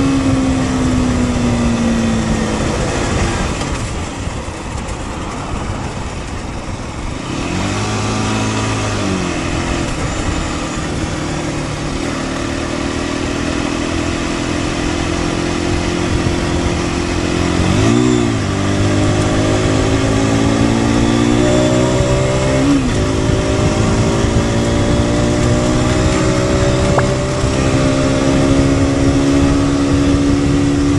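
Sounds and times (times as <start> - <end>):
motorcycle engine revving: 0.0 - 30.9
wind rush: 0.0 - 30.9.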